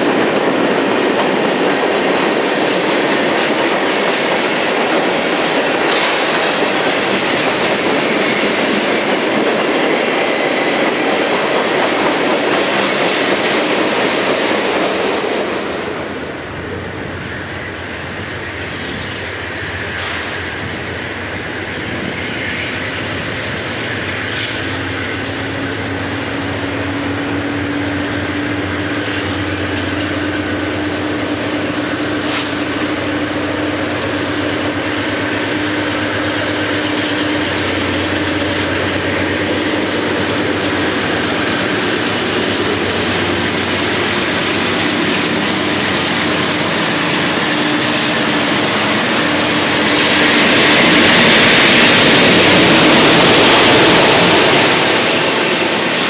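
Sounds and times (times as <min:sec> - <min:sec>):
diesel locomotives rumbling: 0:00.0 - 0:56.0.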